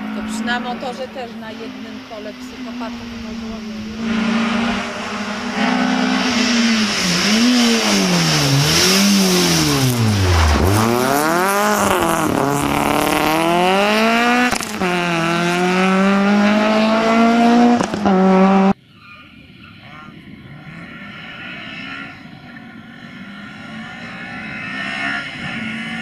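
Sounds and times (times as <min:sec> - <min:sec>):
rally car engine revving: 0:00.0 - 0:18.8, 0:19.6 - 0:26.0.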